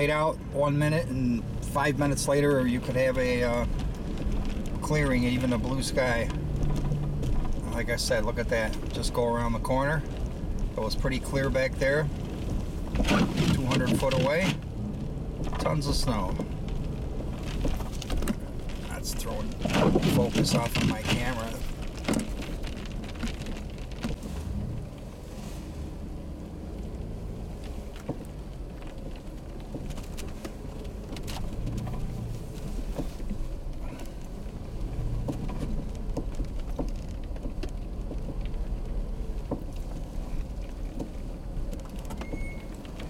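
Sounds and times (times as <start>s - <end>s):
strong wind buffeting a car: 0.0s - 43.0s
snow ticking on window: 1.1s - 43.0s.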